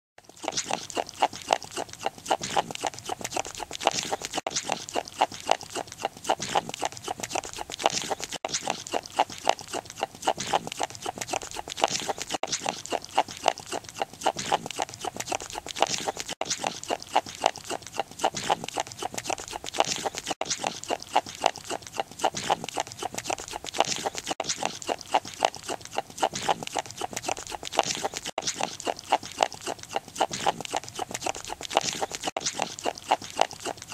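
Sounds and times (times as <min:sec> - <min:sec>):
animal chewing wetly: 0:00.2 - 0:33.9.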